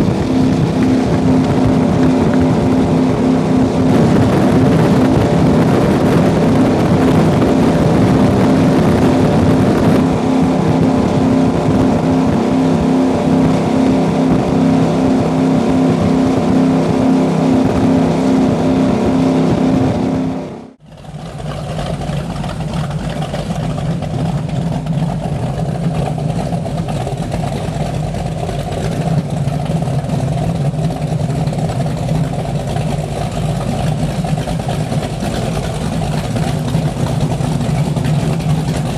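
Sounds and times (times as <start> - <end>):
speedboat engines running: 0.0 - 38.9.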